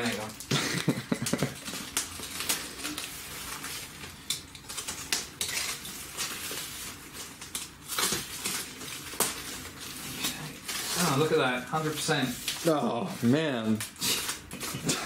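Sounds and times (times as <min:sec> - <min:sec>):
packing wrap crinkling and tearing: 0:00.0 - 0:15.0.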